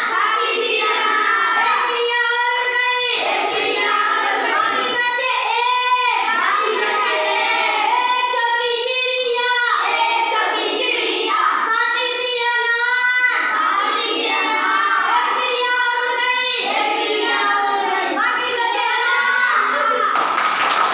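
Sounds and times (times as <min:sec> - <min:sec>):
children singing: 0:00.0 - 0:20.2.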